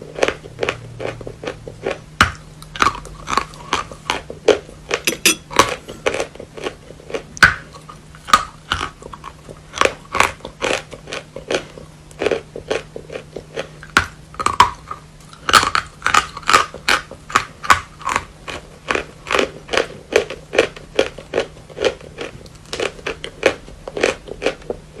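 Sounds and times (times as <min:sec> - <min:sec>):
chalk crunching while chewed: 0:00.0 - 0:25.0.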